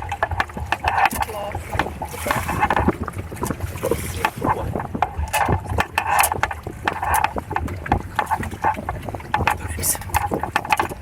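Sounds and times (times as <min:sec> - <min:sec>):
water splashing against hulls: 0:00.0 - 0:11.0
wind rumble on microphone: 0:00.0 - 0:11.0.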